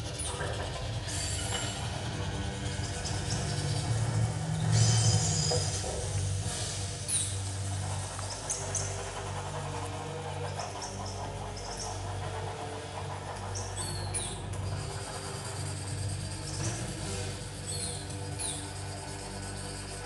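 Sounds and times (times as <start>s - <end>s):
electronic low drone: 0.0s - 20.0s.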